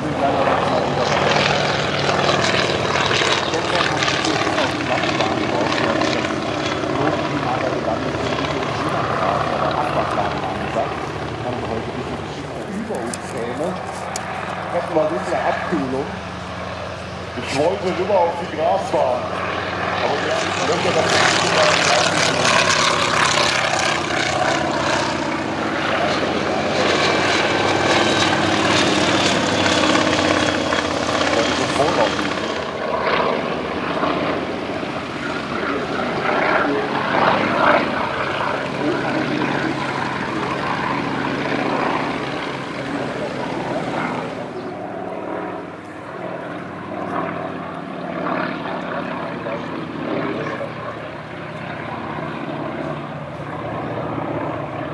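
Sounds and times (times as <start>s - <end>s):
propeller aircraft engine: 0.0s - 54.9s.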